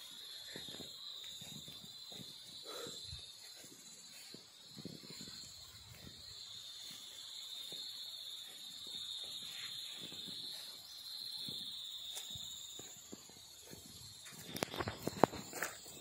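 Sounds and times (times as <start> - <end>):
footsteps on grass: 0.0 - 16.0
insects buzzing: 0.0 - 16.0.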